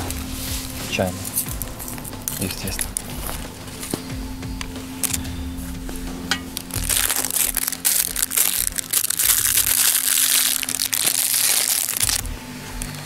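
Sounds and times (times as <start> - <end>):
plastic wrapper crinkling: 0.9 - 5.3, 6.4 - 13.0.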